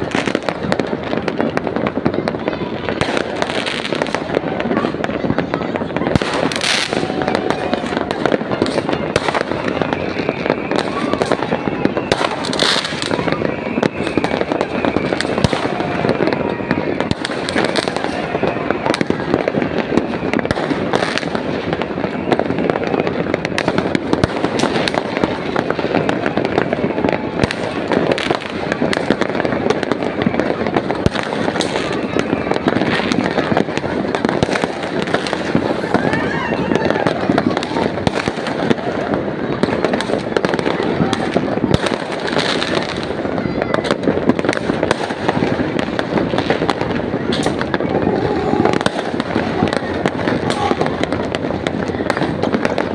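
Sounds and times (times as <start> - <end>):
fireworks cracking and popping: 0.0 - 52.9.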